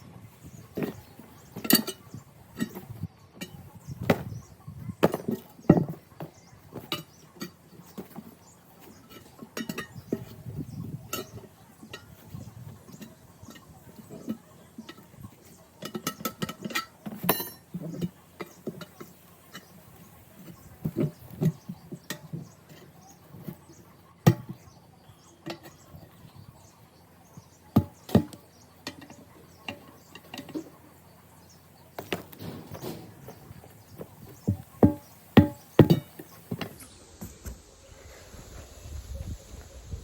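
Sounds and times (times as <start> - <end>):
tire bars clanking on metal rim: 0.1 - 36.9.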